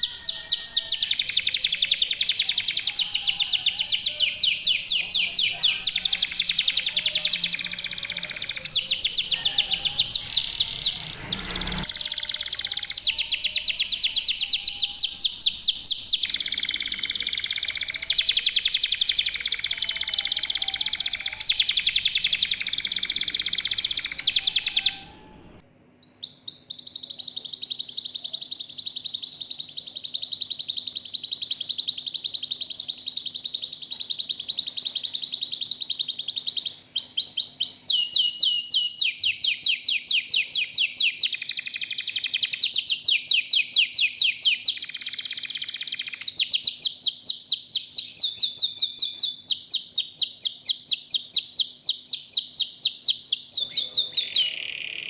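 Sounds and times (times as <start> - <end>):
canaries singing trills: 0.0 - 55.0.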